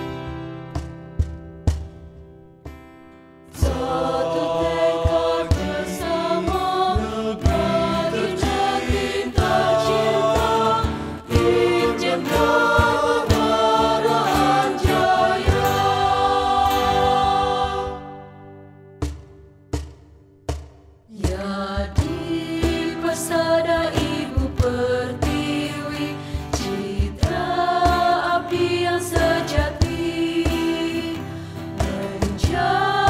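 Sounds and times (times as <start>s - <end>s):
cajon beat: 0.0s - 18.2s, 19.0s - 33.0s
strummed acoustic guitars: 0.0s - 33.0s
mixed choir singing a march: 3.6s - 18.4s, 21.2s - 33.0s.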